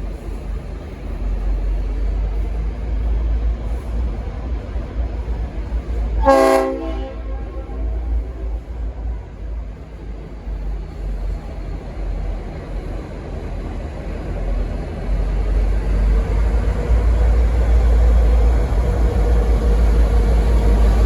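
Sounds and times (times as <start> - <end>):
diesel locomotive engines rumbling: 0.0 - 21.0.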